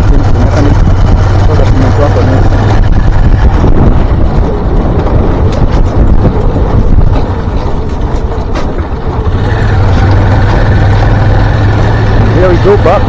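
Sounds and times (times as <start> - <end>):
motorbike engine running: 0.0 - 13.0
wind rushing over microphone: 0.0 - 13.0.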